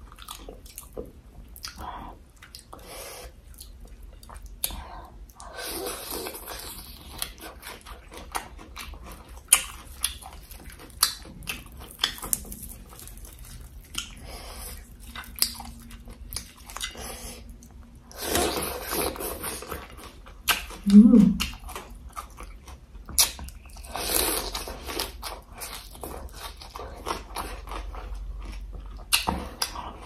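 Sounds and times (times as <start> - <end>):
wet chewing mouth sounds: 0.0 - 30.0.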